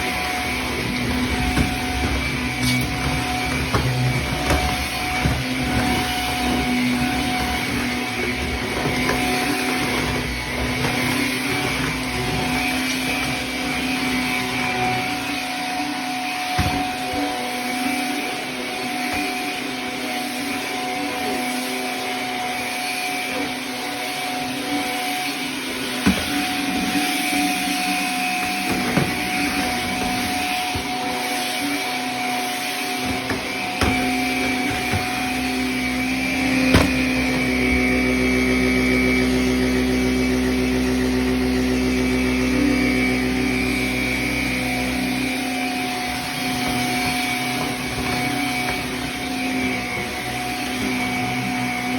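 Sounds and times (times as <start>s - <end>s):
vacuum cleaner on carpet: 0.0s - 51.9s.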